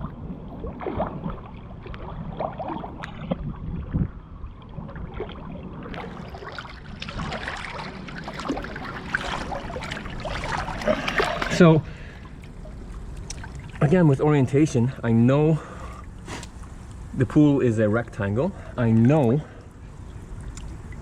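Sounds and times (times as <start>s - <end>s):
pool water splashing: 0.0s - 3.6s, 4.2s - 21.0s.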